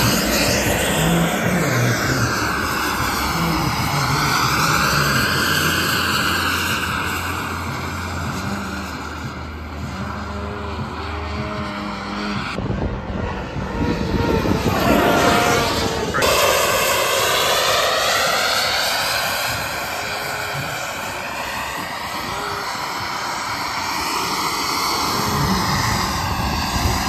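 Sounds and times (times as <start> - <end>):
model aircraft engine droning: 0.0 - 27.0.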